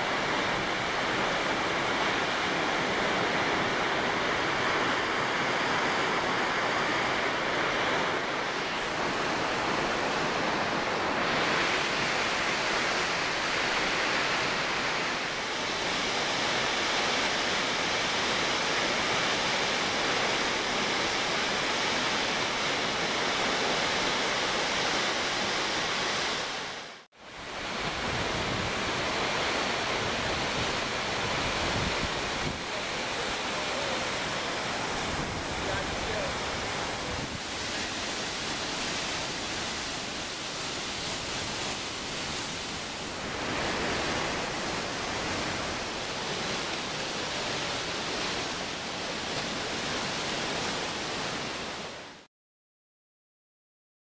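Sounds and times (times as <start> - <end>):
waterfall rushing: 0.0 - 52.2.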